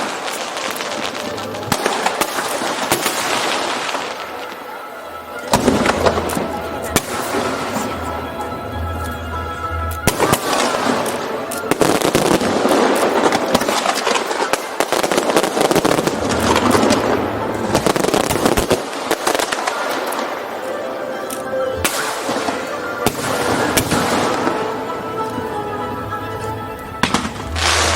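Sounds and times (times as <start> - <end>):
fireworks bangs and crackling: 0.0 - 8.8, 10.0 - 25.6, 27.0 - 27.9
music playing: 0.0 - 27.9.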